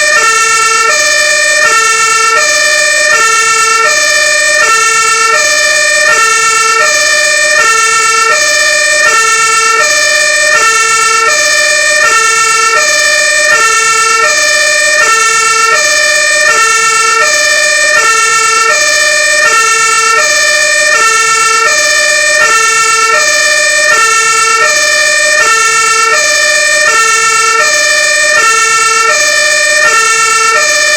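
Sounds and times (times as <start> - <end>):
two-tone siren: 0.0 - 30.9.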